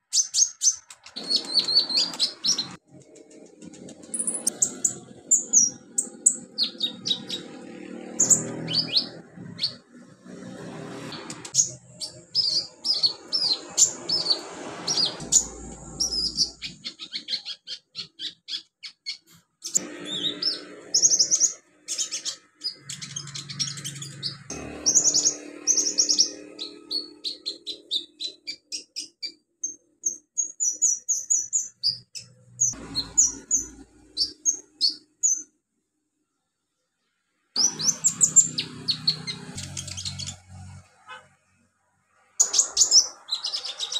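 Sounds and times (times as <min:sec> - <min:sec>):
bird chirping and trilling: 0:00.0 - 0:02.8, 0:04.0 - 0:35.5, 0:37.6 - 0:41.2, 0:42.4 - 0:43.9.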